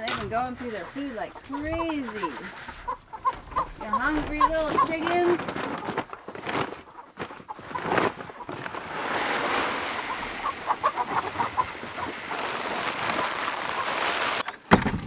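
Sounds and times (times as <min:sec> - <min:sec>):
chickens clucking: 0:00.0 - 0:14.6.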